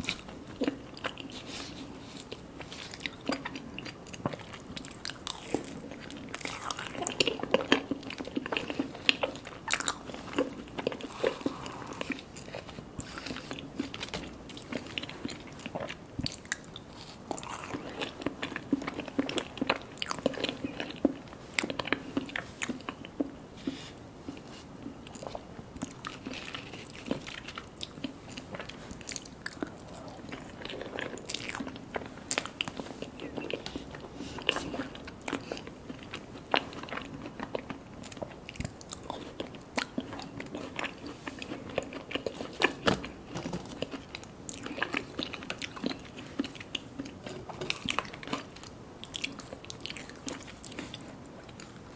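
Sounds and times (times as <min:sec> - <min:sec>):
biting and chewing cake: 0:00.0 - 0:51.9.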